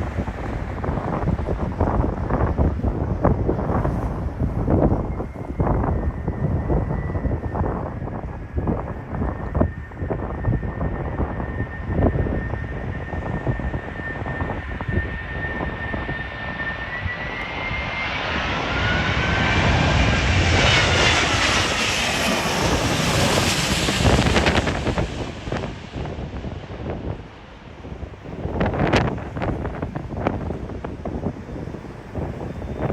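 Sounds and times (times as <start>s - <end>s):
airliner engines whining: 0.0s - 32.9s
wind buffeting microphone: 0.0s - 32.9s.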